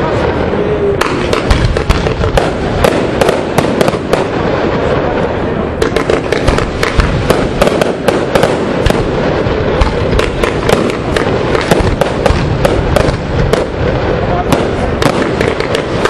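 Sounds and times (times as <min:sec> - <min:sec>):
dense din of explosions: 0:00.0 - 0:16.0
fireworks sharp bangs: 0:00.0 - 0:16.0.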